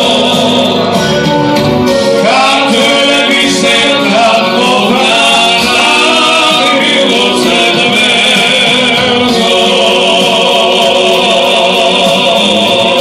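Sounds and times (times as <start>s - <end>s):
men singing through pa: 0.0s - 1.4s, 2.0s - 13.0s
keyboard accompaniment: 0.0s - 13.0s.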